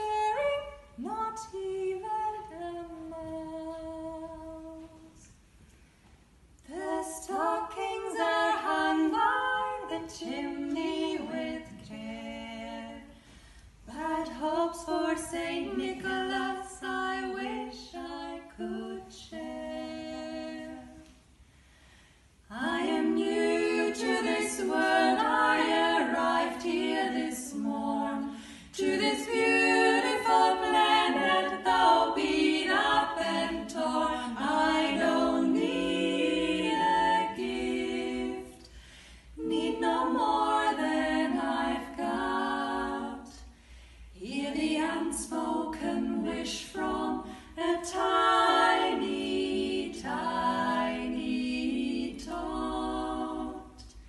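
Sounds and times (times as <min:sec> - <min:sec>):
women singing a cappella: 0:00.0 - 0:05.5, 0:06.6 - 0:21.6, 0:22.4 - 0:54.0.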